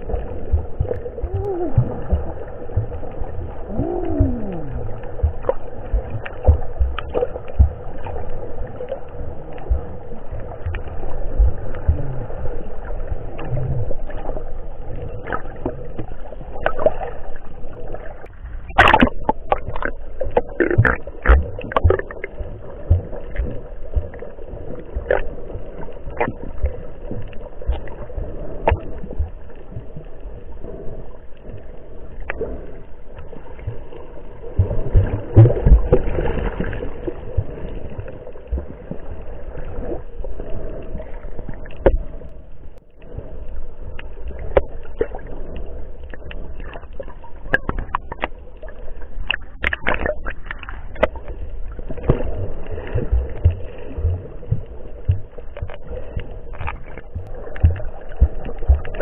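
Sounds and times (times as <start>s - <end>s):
muffled underwater water rush: 0.0s - 59.0s
underwater clicks and gurgles: 0.0s - 59.0s.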